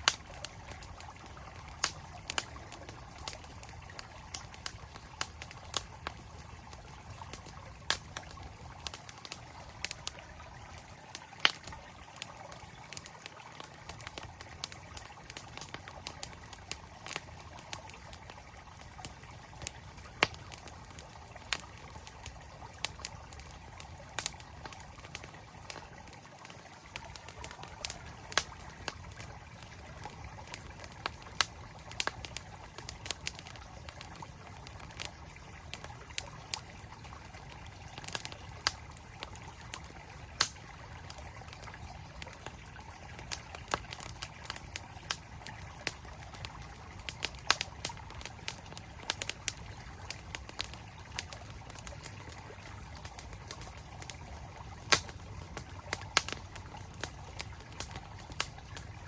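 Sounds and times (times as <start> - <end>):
campfire crackling and popping: 0.0 - 59.0
flowing stream: 0.0 - 59.0.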